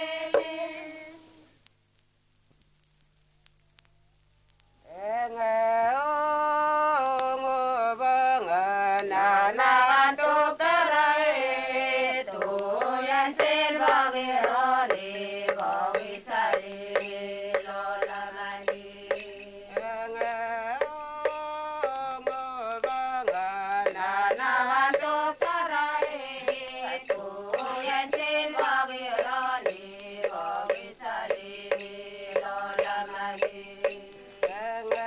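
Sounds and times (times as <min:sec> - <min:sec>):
group singing in unison: 0:00.0 - 0:01.3, 0:04.9 - 0:35.0.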